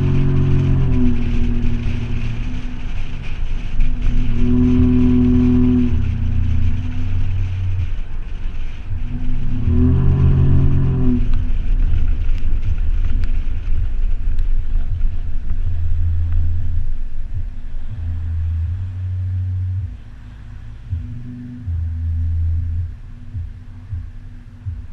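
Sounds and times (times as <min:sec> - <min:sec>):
deep engine exhaust rumble: 0:00.0 - 0:24.9.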